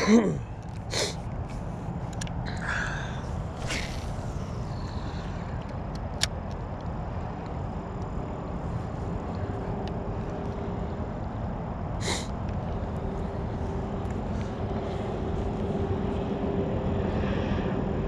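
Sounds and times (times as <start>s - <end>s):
faint steady hum: 0.0s - 18.0s
low outdoor rumble: 0.0s - 18.0s.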